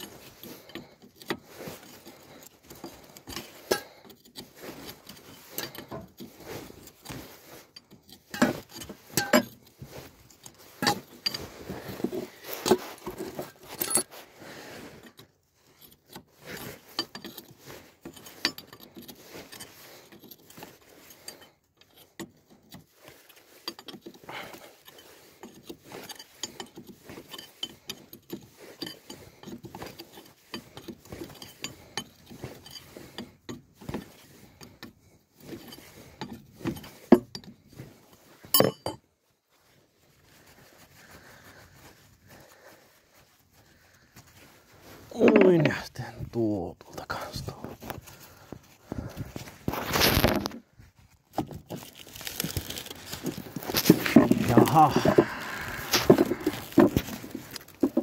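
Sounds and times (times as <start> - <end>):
tools and steel parts clinking: 0.0 - 39.1, 45.0 - 46.4, 51.3 - 58.0.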